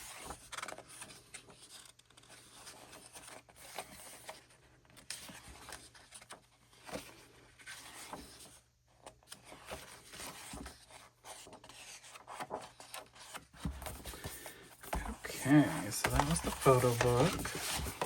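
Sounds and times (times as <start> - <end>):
book pages turning: 0.0 - 18.0.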